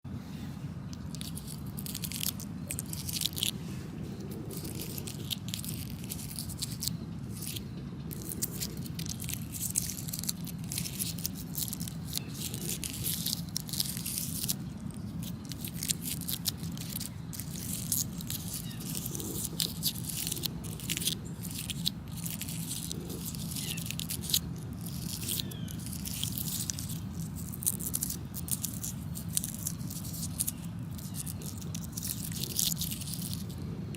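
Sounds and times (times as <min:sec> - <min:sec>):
low background rumble: 0:00.0 - 0:33.9
dry flower bracts crackling: 0:00.2 - 0:33.9.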